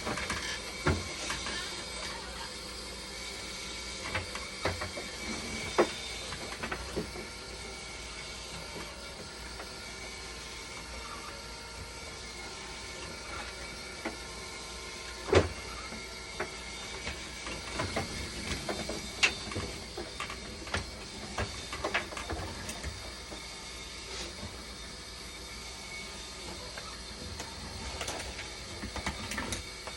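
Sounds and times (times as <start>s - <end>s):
machine hum with cooling fan: 0.0s - 29.9s.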